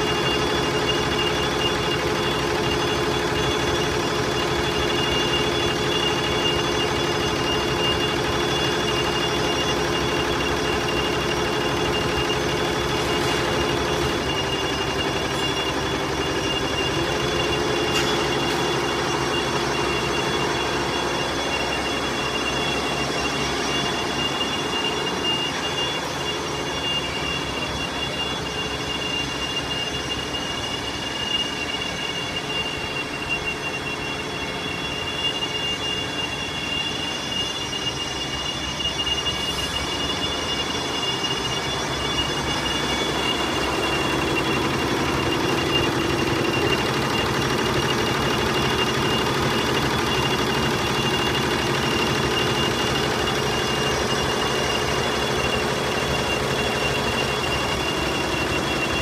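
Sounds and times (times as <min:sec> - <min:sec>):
constant high machine whine: 0:00.0 - 0:59.0
embroidery machine mechanical chatter: 0:00.0 - 0:59.0.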